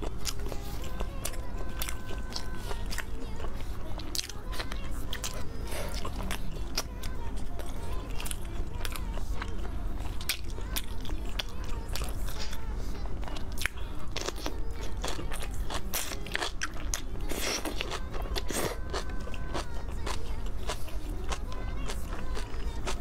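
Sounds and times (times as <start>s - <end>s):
crunching and chewing cabbage: 0.0s - 23.0s
low steady hum: 0.0s - 23.0s.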